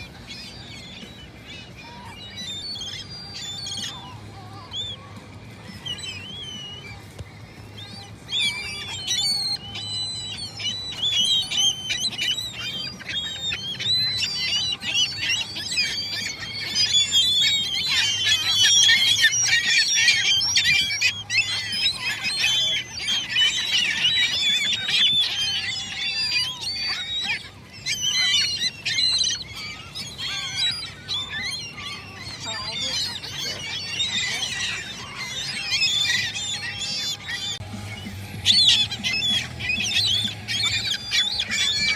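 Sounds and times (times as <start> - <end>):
gulls squawking: 0.0 - 41.9.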